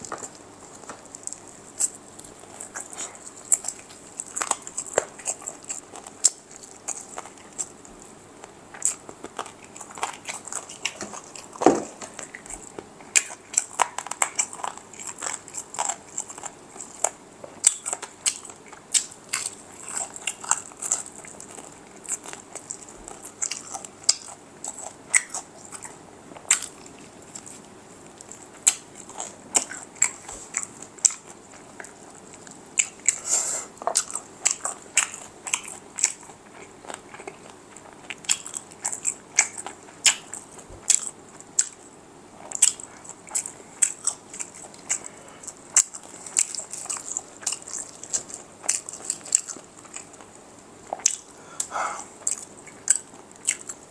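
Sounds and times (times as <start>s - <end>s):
chewing: 0.0s - 53.9s
crunching fried chicken: 0.0s - 53.9s.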